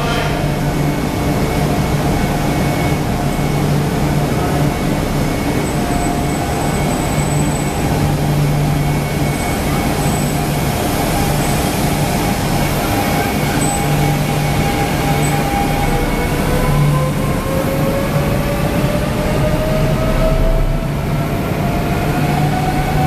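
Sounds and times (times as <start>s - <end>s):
train traction hum with high tones: 0.0s - 23.0s.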